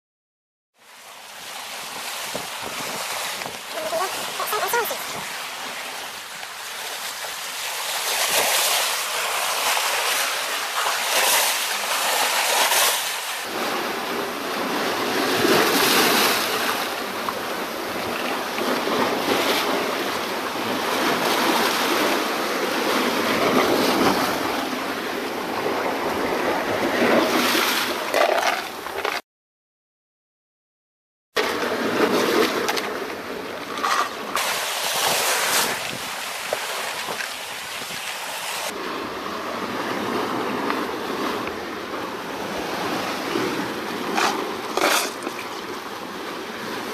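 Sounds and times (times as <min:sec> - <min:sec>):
waves washing over boulders: 0:00.8 - 0:29.2, 0:31.4 - 0:46.9.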